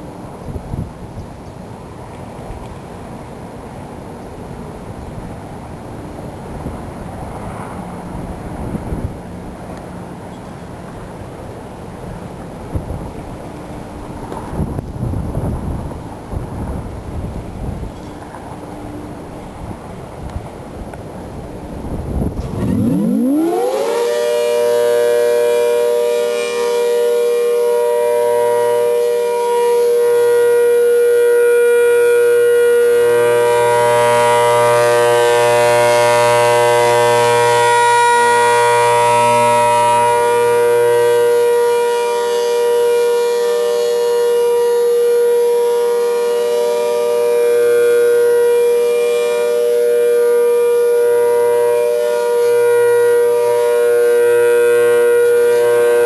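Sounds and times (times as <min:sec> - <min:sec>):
outdoor warning siren: 0:05.8 - 0:56.0.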